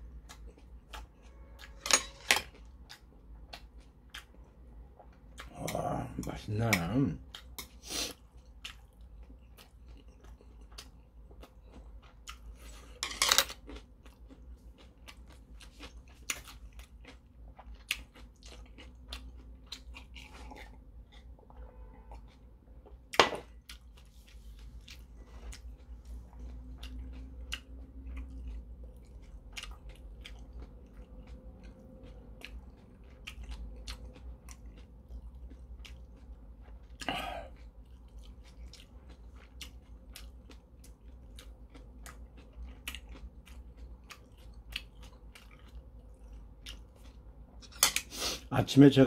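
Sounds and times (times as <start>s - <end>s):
close-miked chewing: 0.0s - 1.8s, 2.5s - 48.5s.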